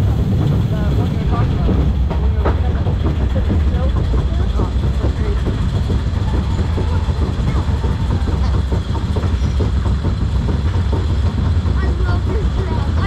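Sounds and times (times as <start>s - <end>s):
lift chain rumble: 0.0s - 13.0s.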